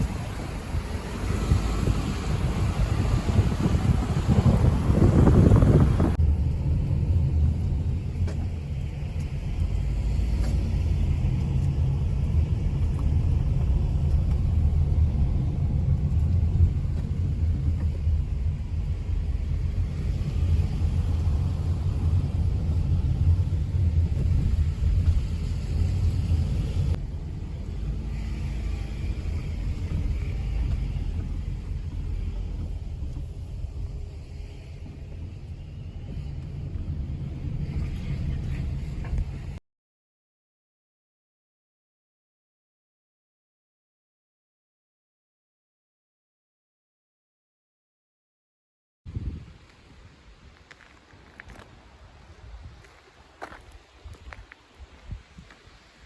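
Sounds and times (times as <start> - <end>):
moving vehicle rumble: 0.0 - 39.6, 49.1 - 56.0.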